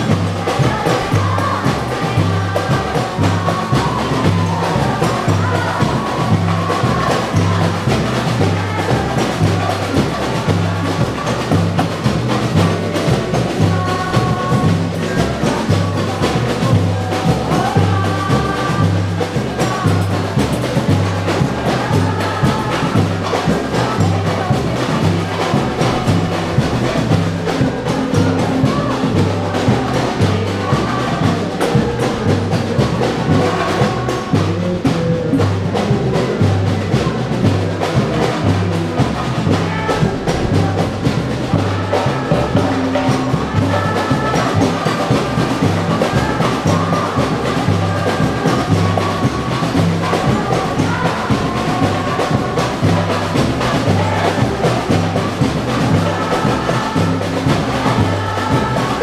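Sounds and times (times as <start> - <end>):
melody over percussion: 0.0 - 59.0
samba band playing: 0.0 - 59.0
surdo bass drums: 0.0 - 59.0.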